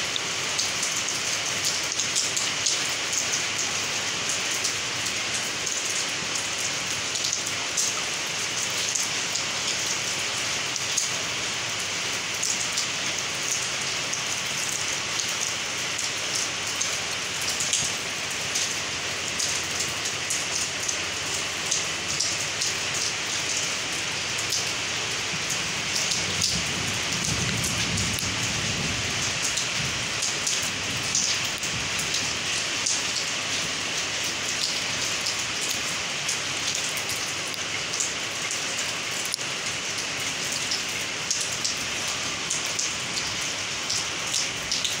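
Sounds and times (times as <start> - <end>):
rain into water barrel: 0.0 - 45.0
rain on concrete: 0.0 - 45.0.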